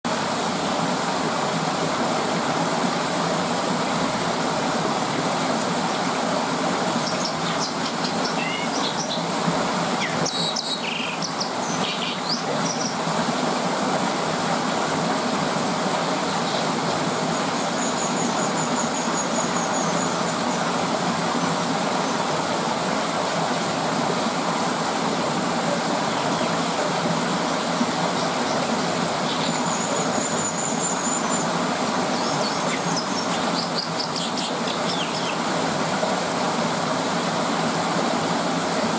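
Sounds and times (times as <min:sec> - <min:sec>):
stream rushing: 0:00.1 - 0:38.9.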